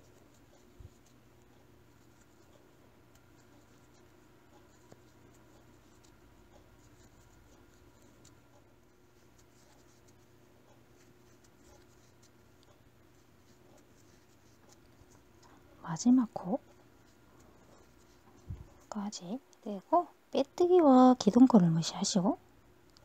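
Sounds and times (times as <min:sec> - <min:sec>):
crochet hook pulling yarn: 0:00.0 - 0:18.9
faint room hum: 0:00.0 - 0:23.0.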